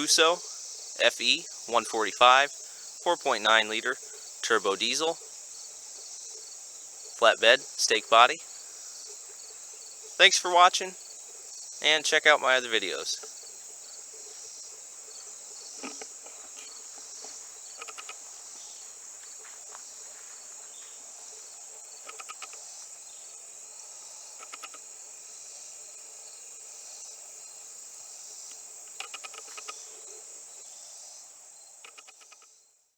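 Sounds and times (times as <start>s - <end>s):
high-pitched insect chorus: 0.0s - 32.8s
rapid insect chirps: 0.0s - 32.9s.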